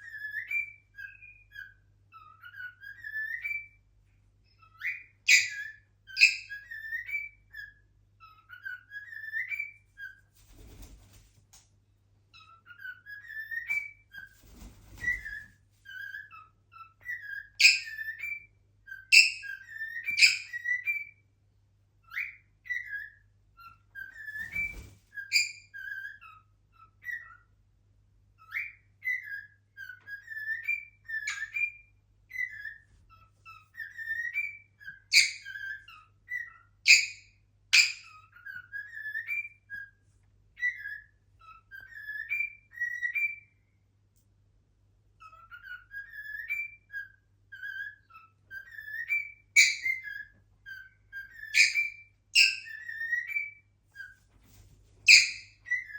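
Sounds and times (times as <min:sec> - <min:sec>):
cockatiel whistling: 0:00.0 - 0:03.8, 0:04.6 - 0:10.2, 0:12.4 - 0:14.3, 0:15.0 - 0:21.2, 0:22.0 - 0:27.5, 0:28.4 - 0:40.0, 0:40.6 - 0:43.5, 0:45.2 - 0:54.2, 0:55.0 - 0:55.9.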